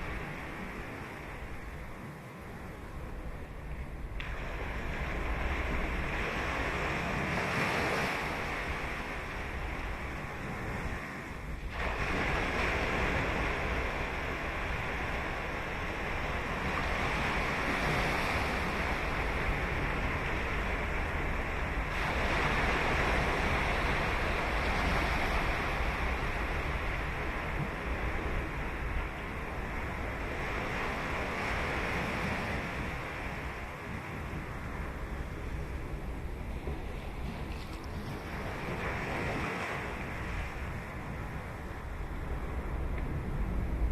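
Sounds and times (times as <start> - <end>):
low rumble of sea: 0.0 - 43.9
surf breaking on beach: 4.2 - 43.9.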